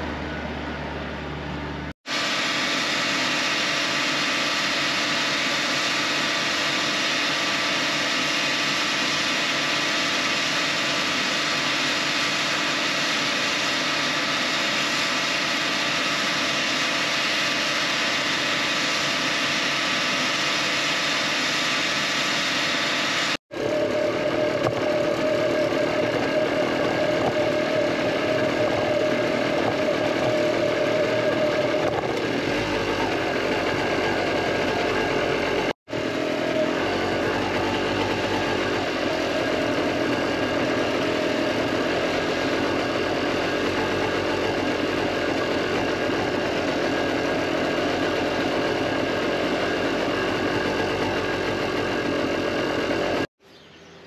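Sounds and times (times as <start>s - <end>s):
tractor engine running: 0.0s - 53.8s
engine with constant whine: 0.0s - 54.0s
pump running: 2.1s - 53.3s.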